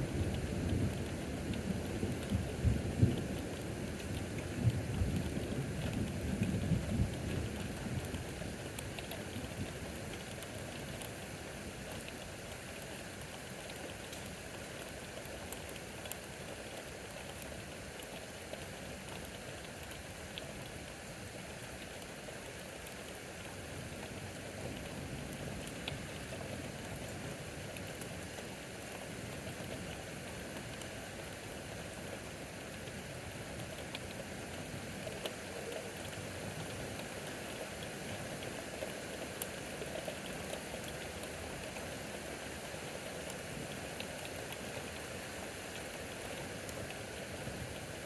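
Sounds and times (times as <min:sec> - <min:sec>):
raindrops ticking on surfaces: 0:00.0 - 0:48.0
steady rain hiss: 0:00.0 - 0:48.0.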